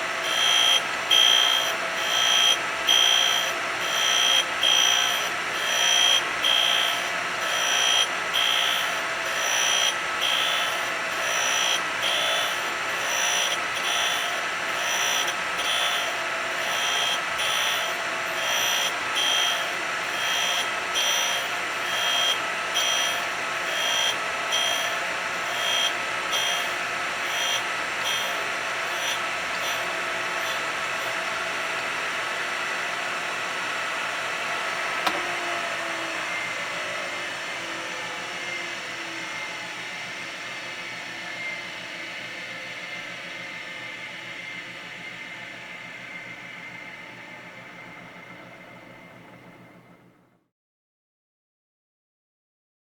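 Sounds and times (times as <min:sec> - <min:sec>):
power grinder whining: 0:00.0 - 0:50.0.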